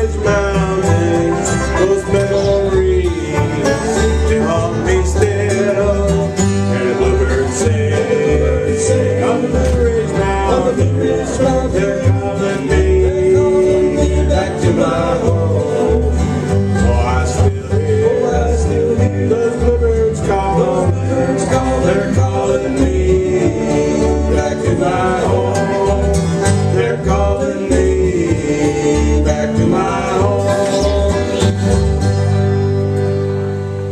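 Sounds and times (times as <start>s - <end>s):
repeating bass line: 0.0s - 33.0s
banjo picking: 0.0s - 33.9s
bowed string melody: 0.0s - 33.9s
guitar picking: 0.0s - 33.9s.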